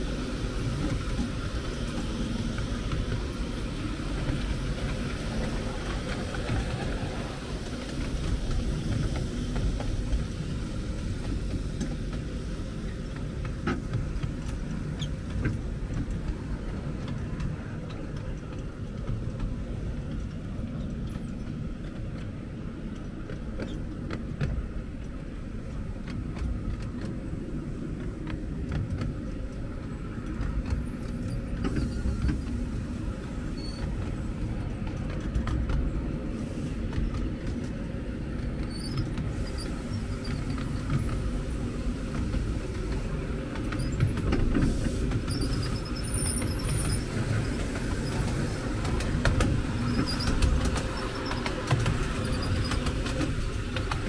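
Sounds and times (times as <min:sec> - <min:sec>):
miniature train rumbling on track: 0:00.0 - 0:54.0.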